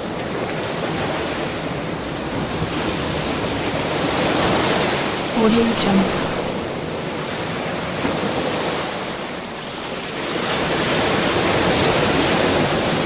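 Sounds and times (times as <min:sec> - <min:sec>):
ocean waves breaking: 0:00.1 - 0:13.0.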